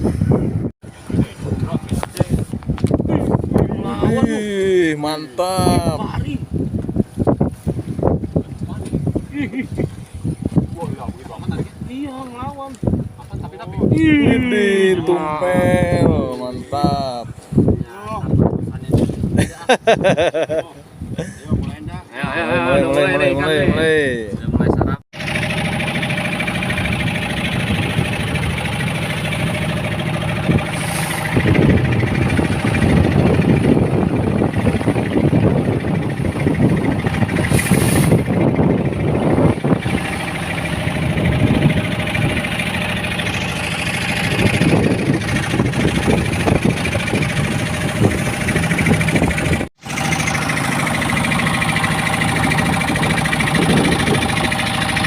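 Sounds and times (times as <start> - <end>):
boat engine running: 0.0 - 19.4, 25.2 - 55.0.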